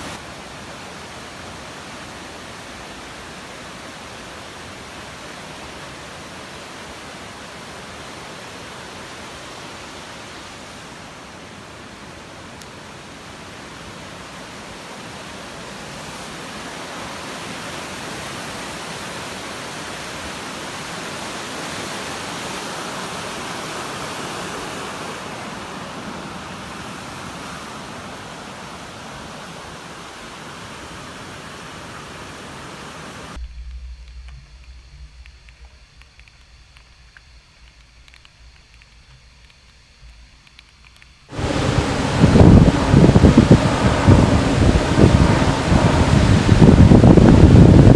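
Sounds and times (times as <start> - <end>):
rush of falling water: 0.0 - 33.4, 41.3 - 47.9.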